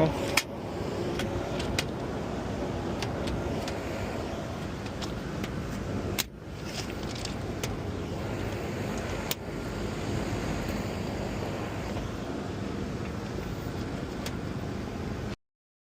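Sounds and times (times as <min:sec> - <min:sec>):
hvac unit rushing noise: 0:00.0 - 0:15.4.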